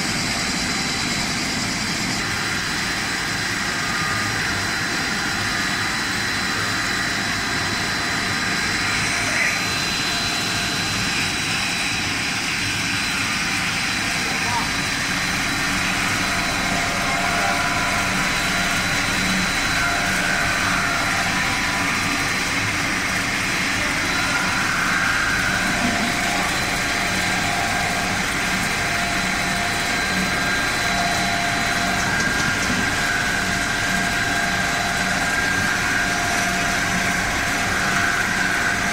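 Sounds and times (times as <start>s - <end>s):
production line machinery hum: 0.0s - 38.9s
steady machine whining tones: 0.0s - 38.9s.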